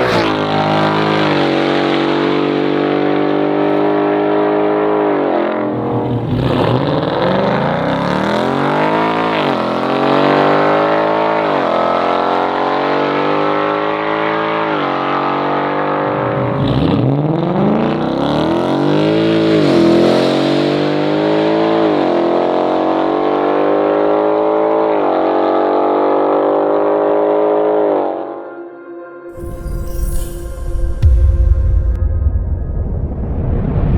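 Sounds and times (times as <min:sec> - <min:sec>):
car engine revving: 0:00.0 - 0:28.2.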